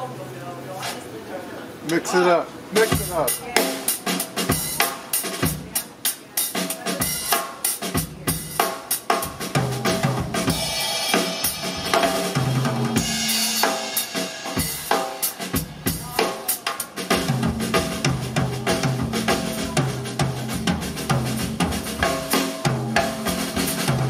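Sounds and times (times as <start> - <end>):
cymbals: 2.8 - 24.0.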